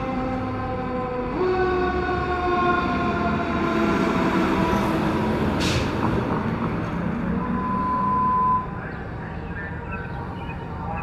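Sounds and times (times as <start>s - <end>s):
fire engine rumbling: 0.0s - 11.0s.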